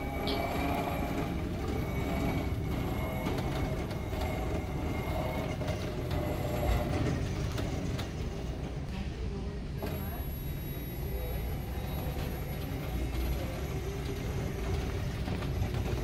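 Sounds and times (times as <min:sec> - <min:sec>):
cart wheels rolling on floor: 0:00.0 - 0:08.9, 0:11.4 - 0:16.0.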